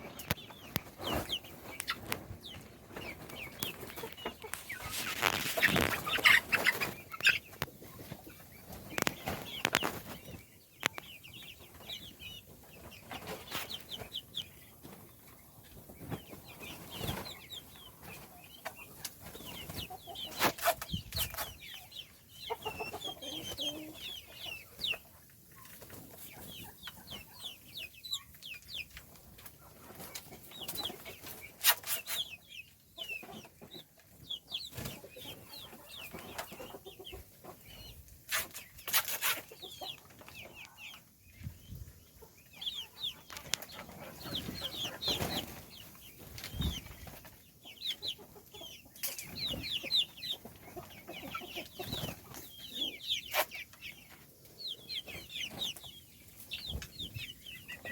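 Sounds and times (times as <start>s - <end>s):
chicks cheeping: 0.0s - 57.9s.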